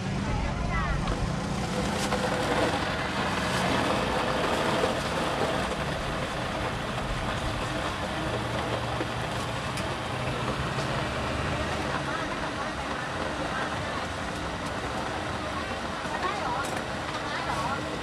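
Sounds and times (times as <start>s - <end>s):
street chatter: 0.0s - 18.0s.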